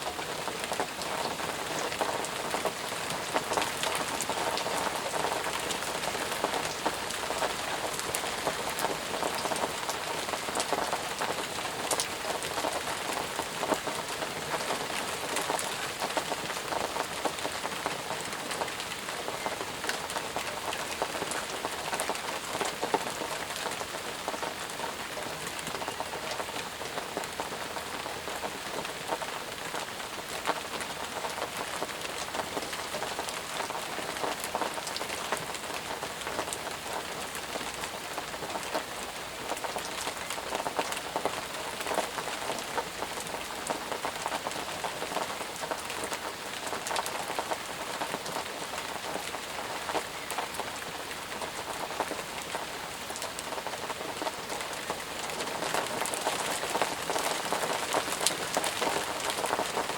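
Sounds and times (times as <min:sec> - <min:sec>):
heavy rain falling: 0:00.0 - 0:59.9
raindrops ticking: 0:00.1 - 0:59.9.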